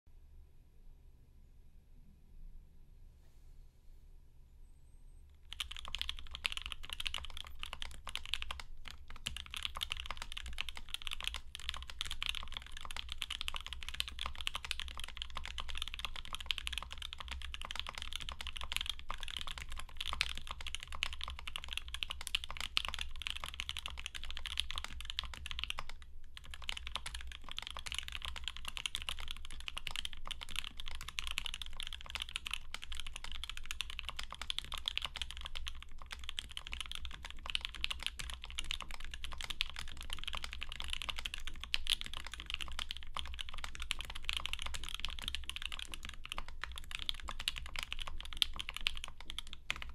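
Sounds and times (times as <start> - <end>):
fast typing on mechanical keyboard: 5.4 - 49.9.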